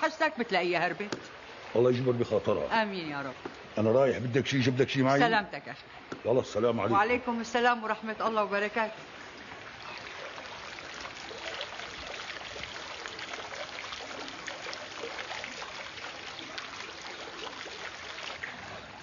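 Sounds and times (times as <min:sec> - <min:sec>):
fountain water splashing: 0:00.0 - 0:05.6, 0:06.3 - 0:19.0.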